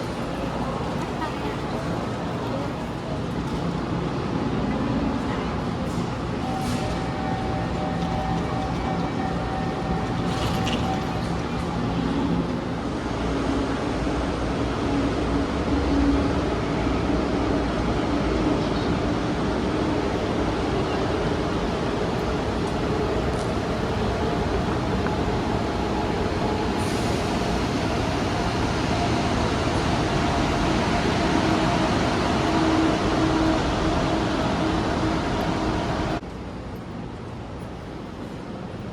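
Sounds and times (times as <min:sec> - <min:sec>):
high-speed train running: 0:00.0 - 0:38.9.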